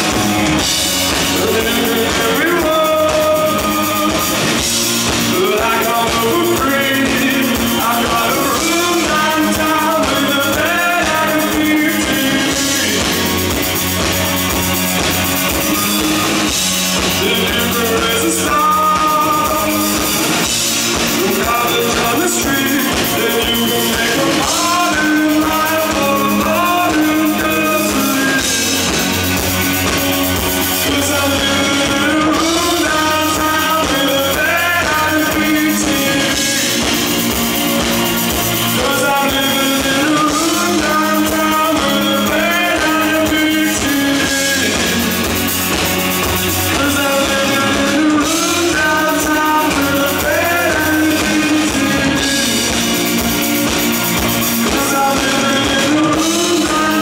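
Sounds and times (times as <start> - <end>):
male lead vocal singing: 0.0 - 13.7, 16.4 - 57.0
bass guitar: 0.0 - 57.0
drum kit: 0.0 - 57.0
electric guitar: 0.0 - 57.0.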